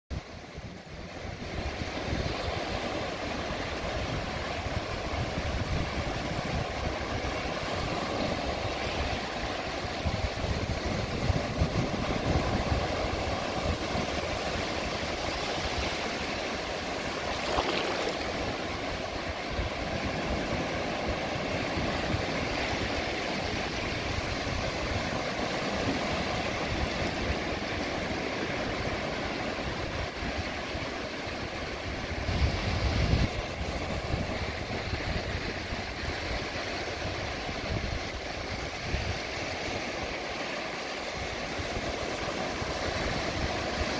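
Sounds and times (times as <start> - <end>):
wind rumbling on microphone: 0.1 - 43.9
small waves breaking on beach: 0.2 - 43.9.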